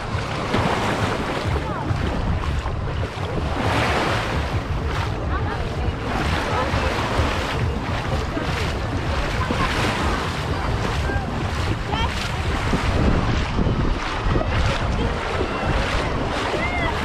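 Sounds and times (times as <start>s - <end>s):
faint voices: 0.0s - 17.0s
sea waves washing onto beach: 0.0s - 17.0s
wind buffeting microphone: 0.0s - 17.0s.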